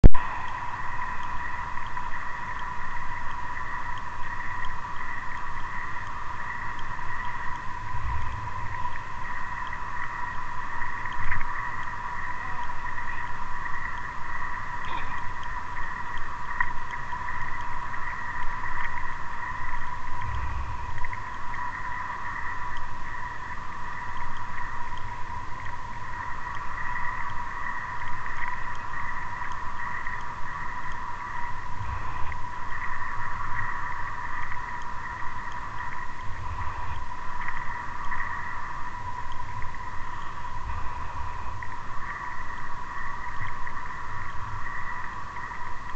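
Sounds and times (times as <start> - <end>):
steady high-pitched tone: 0.0 - 45.9.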